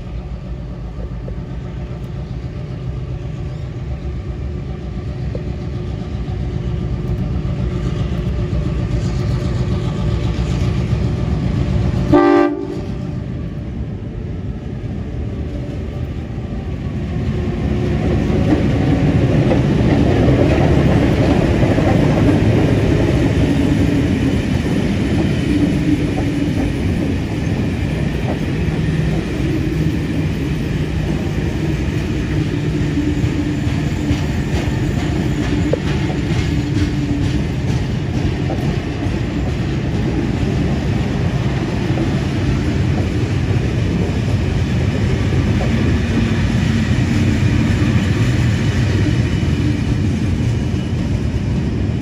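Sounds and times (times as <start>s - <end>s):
train carriages rumbling on rails: 0.0s - 52.0s.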